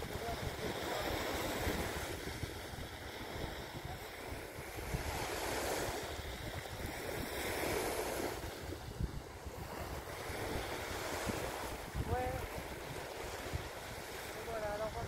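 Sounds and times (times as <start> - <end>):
small waves washing onto shore: 0.0 - 15.0
wind buffeting microphone: 0.0 - 15.0.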